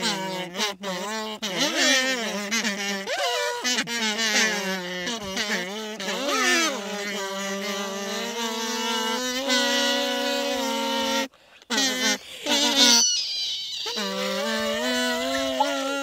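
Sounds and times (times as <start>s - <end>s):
low bass kazoo note: 0.0s - 16.0s
soprano kazoo melody: 0.0s - 16.0s.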